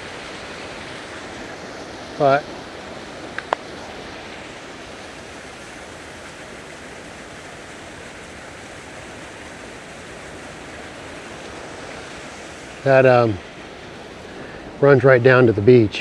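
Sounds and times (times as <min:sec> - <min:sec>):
ocean surf: 0:00.0 - 0:16.0
small waterfall: 0:00.0 - 0:16.0.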